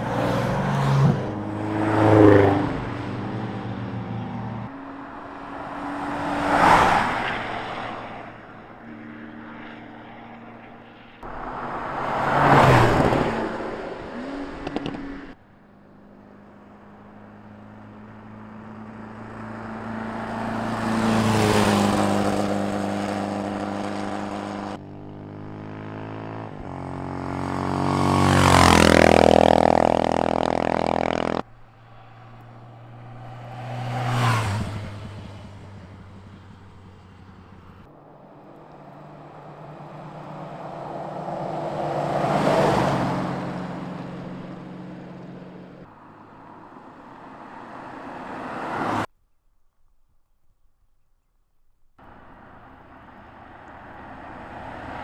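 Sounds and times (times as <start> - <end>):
cars passing by: 0.0 - 49.1, 52.0 - 55.0
motorcycle passing: 0.0 - 49.1, 52.0 - 55.0.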